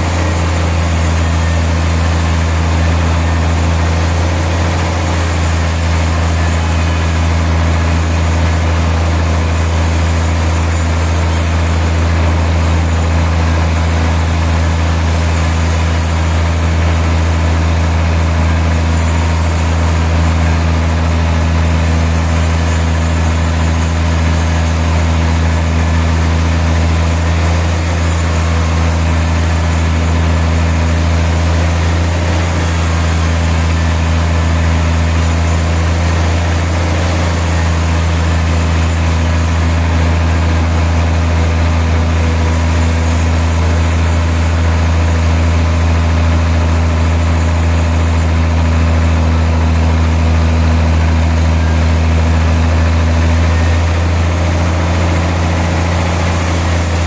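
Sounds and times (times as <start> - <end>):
sawmill motor hum: 0.0 - 57.0.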